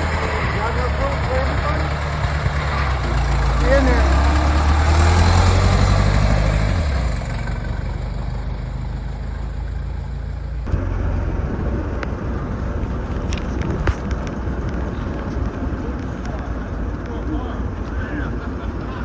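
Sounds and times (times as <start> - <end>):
outdoor background noise: 0.0 - 19.0
vehicle engine deep hum: 0.0 - 19.0.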